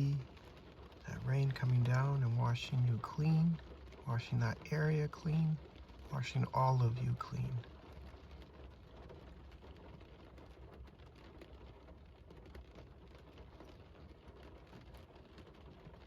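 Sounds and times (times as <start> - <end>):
low steady rumble: 0.0 - 16.0
rain patter: 0.0 - 16.0.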